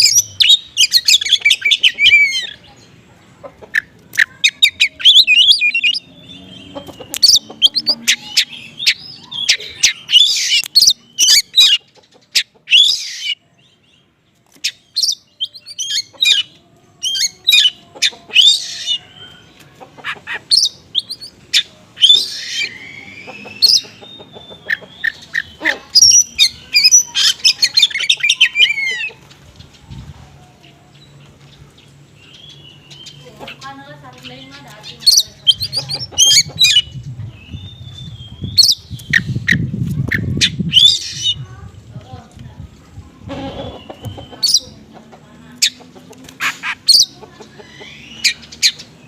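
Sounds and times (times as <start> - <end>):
songbird chirping and trilling: 0.0 - 49.0.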